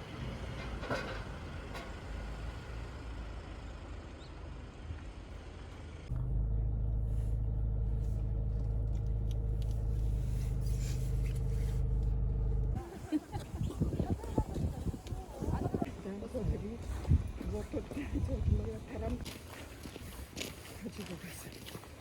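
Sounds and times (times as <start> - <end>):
vehicle running rumble: 0.0 - 22.0.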